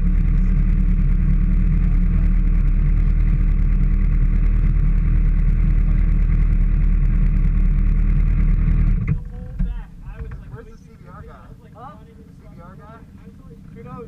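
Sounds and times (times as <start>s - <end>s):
motorcycle engine rumble: 0.0s - 14.0s.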